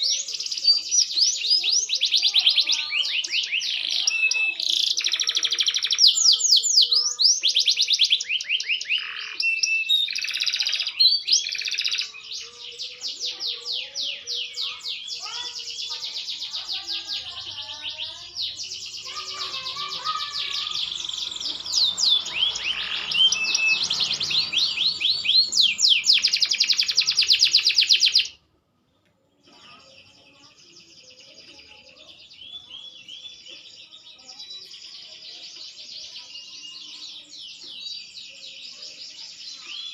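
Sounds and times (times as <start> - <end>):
canary singing trills: 0.0 - 28.5, 29.3 - 39.9.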